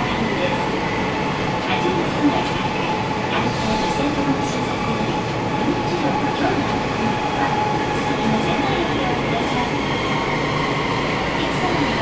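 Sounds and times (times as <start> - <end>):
train wheel and running noise: 0.0 - 12.0.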